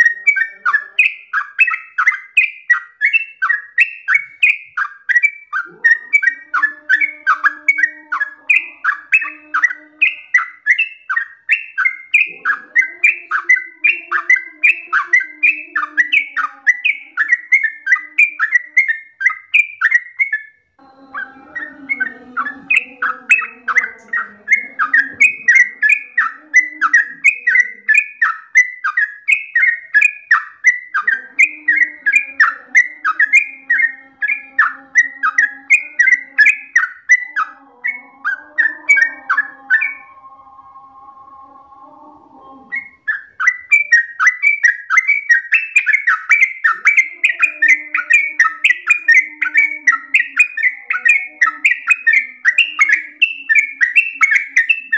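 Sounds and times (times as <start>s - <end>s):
bird singing chirping notes: 0.0s - 54.9s.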